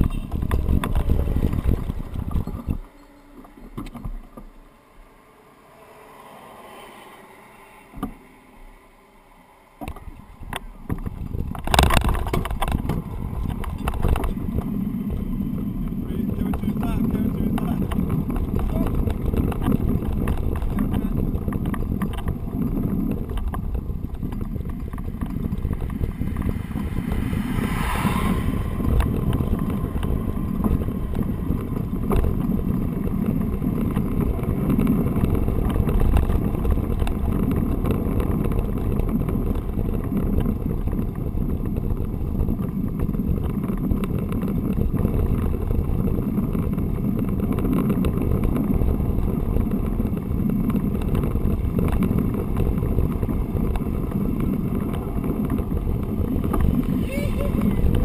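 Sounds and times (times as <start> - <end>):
wind buffeting microphone: 0.0 - 5.2, 9.8 - 58.0
bicycle tyre noise on road: 0.0 - 58.0.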